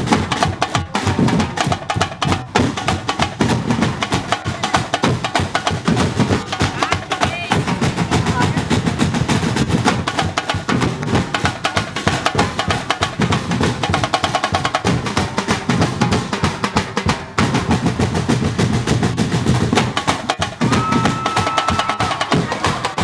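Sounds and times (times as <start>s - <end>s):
percussion ensemble drumming: 0.0s - 23.0s.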